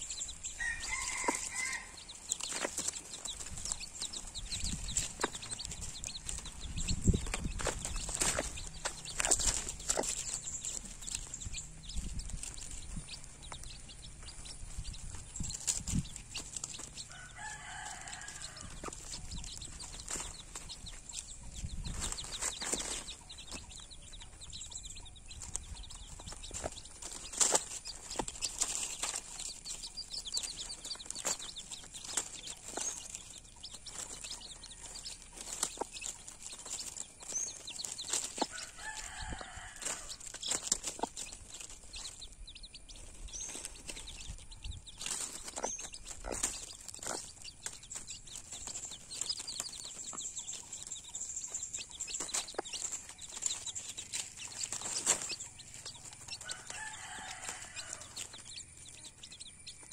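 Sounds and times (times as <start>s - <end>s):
chicks peeping: 0.0s - 59.9s
pecking and rustling in dry leaves: 0.0s - 59.9s.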